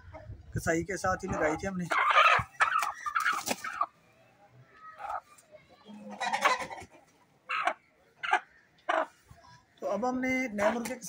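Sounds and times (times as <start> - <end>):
chickens clucking: 0.0 - 9.8.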